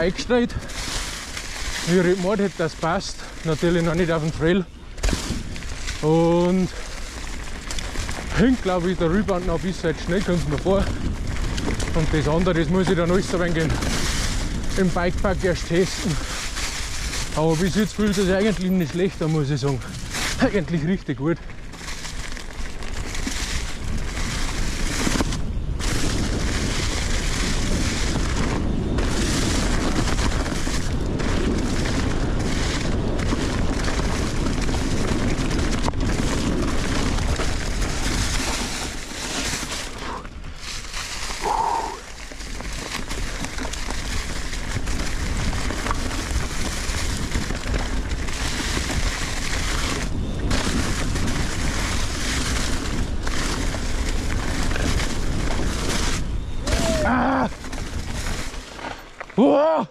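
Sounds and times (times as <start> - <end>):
mountain bike riding noise: 0.0 - 59.9
wind buffeting microphone: 0.0 - 59.9.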